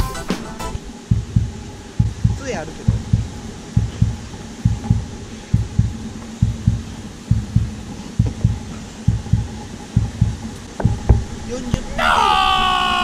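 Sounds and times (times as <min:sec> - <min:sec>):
faint steady hum: 0:00.1 - 0:13.0.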